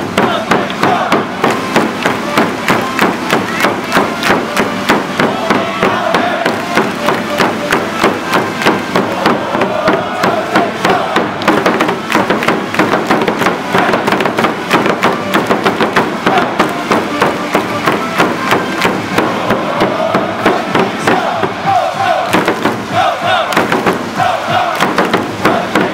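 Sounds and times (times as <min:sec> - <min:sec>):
crowd chanting: 0:00.0 - 0:25.9
rhythmic claps of crowd: 0:00.0 - 0:25.9.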